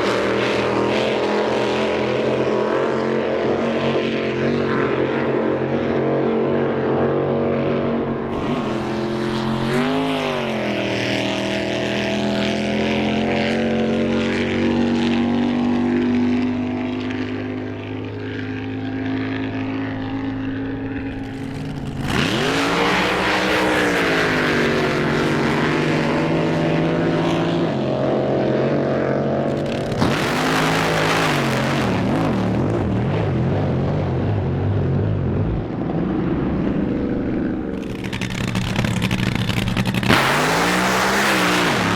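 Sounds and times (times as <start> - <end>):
drag boat engines roaring: 0.0 - 41.9.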